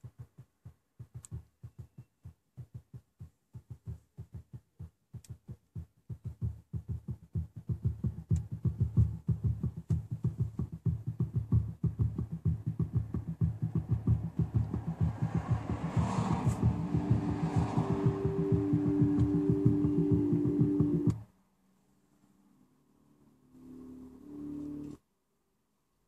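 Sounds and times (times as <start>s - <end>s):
bass-heavy music with thumping beat: 0.0s - 21.2s.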